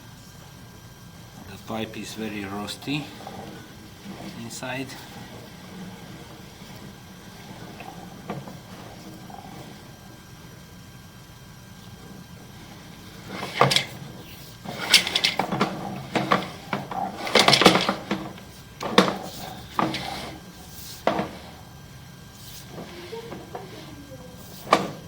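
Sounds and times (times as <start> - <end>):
knocks and clatters: 1.2 - 10.9, 11.6 - 25.0.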